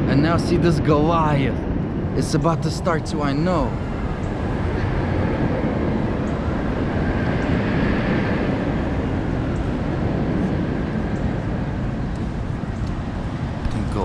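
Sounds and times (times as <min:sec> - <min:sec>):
roller coaster rumbling on track: 0:00.0 - 0:14.0
steady low rumble: 0:00.0 - 0:14.0.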